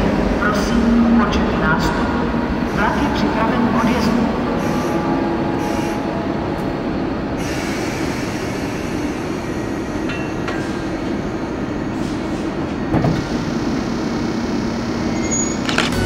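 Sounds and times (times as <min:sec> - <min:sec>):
electric locomotive humming and whirring: 0:00.0 - 0:16.0.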